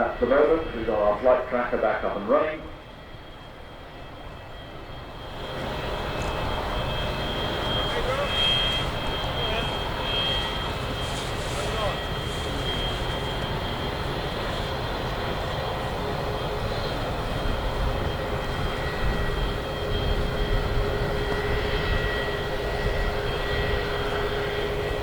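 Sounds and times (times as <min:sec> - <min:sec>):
jet engine rumble: 0:00.0 - 0:25.0
steady engine whine: 0:00.0 - 0:25.0.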